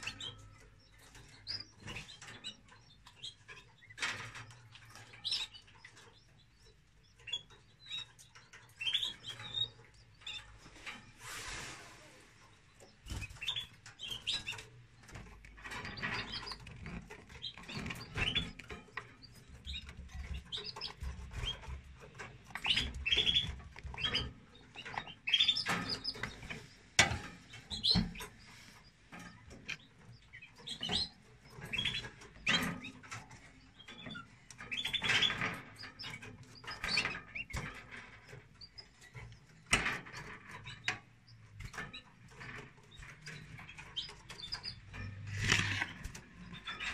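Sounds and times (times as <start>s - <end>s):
canaries chirping: 0.0s - 46.9s.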